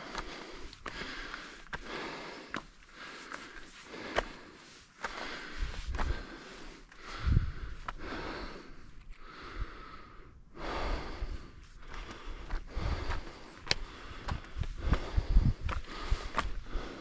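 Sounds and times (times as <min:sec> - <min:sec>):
footsteps on a trail: 0:00.0 - 0:09.1, 0:11.4 - 0:17.0
person breathing hard: 0:00.0 - 0:17.0.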